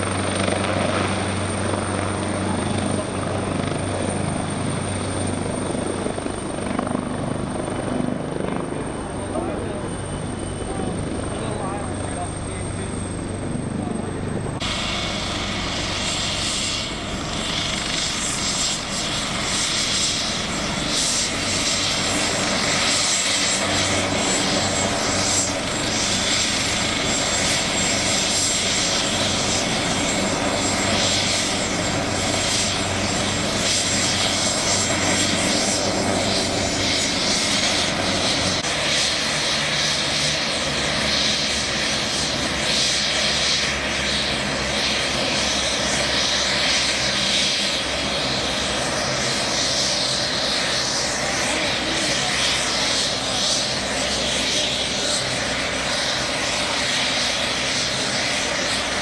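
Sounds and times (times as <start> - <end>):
helicopter engines and rotors: 0.0 - 59.0.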